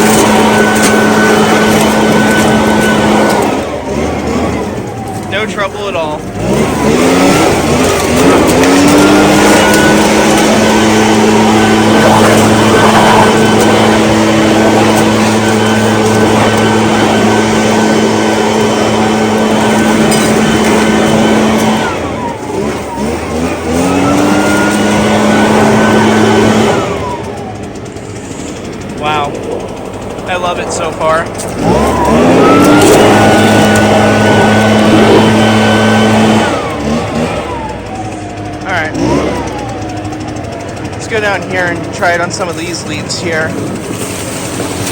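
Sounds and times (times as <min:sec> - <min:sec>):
leaf blower engine at full throttle: 0:00.0 - 0:44.9.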